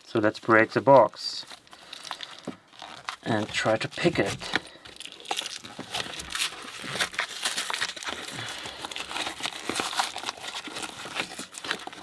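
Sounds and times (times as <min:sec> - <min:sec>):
packaging crinkling and tearing: 0:00.4 - 0:12.0.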